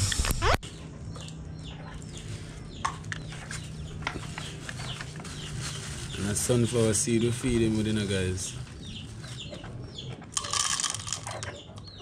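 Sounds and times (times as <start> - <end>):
soft bird calls: 0.6 - 10.3.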